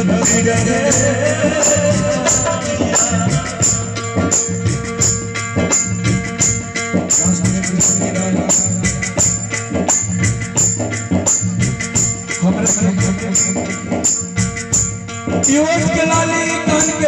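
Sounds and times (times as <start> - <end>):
jingling tambourine hits: 0.0 - 17.0
steady beat: 0.0 - 17.0.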